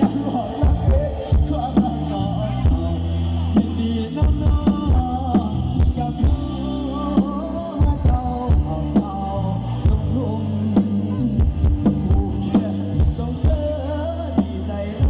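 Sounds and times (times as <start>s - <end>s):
live band music over loudspeakers: 0.0s - 15.0s.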